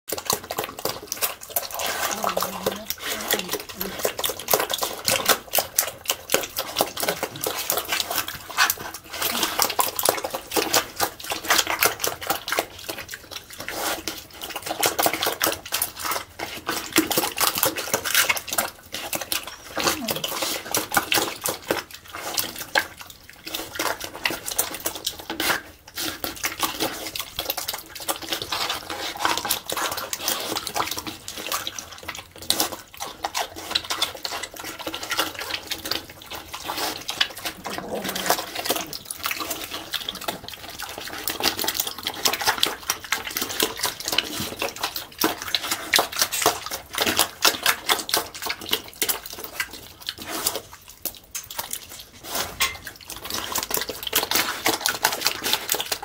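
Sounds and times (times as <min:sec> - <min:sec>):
pig slurping and chomping: 0:00.1 - 0:56.0.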